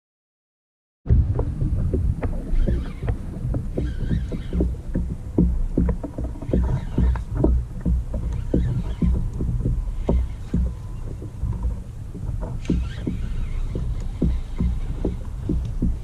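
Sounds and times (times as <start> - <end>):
low rumble: 1.1 - 16.0
water lapping against kayak hull: 1.1 - 16.0.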